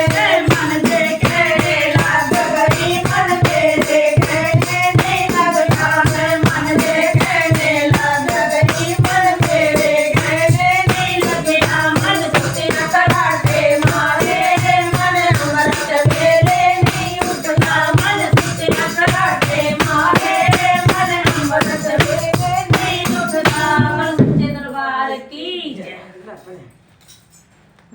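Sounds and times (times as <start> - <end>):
hand percussion with jingles: 0.0 - 24.3, 26.4 - 27.6
voices singing: 0.0 - 25.4.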